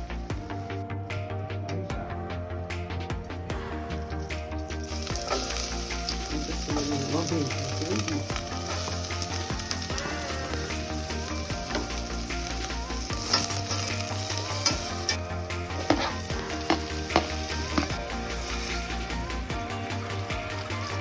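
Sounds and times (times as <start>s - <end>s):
food sizzling in a pan: 4.0s - 21.0s.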